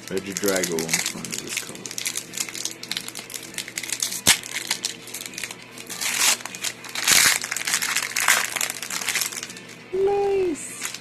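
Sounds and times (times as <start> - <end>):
foil wrapper crinkling: 0.0 - 9.9, 10.8 - 11.0.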